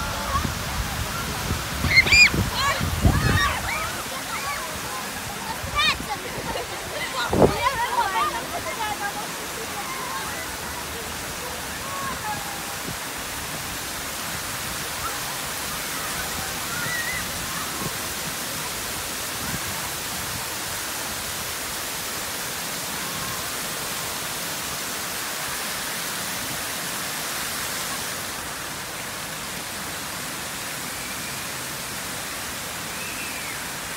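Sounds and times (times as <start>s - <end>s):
fountain water hissing: 0.0s - 33.9s.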